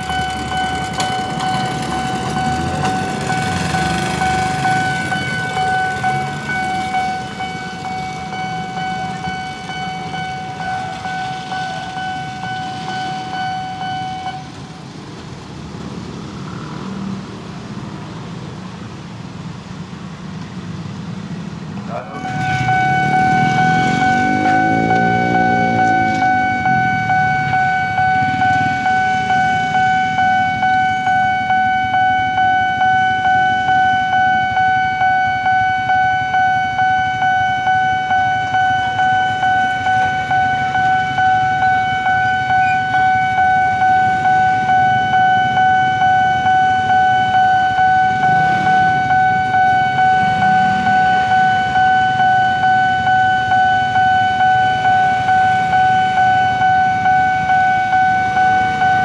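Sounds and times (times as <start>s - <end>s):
level crossing warning bell: 0.0s - 15.0s, 21.8s - 59.0s.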